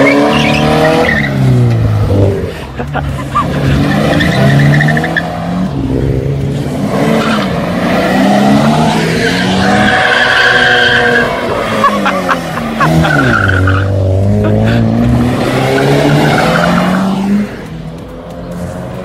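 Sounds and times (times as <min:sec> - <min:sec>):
car engines accelerating: 0:00.0 - 0:19.0.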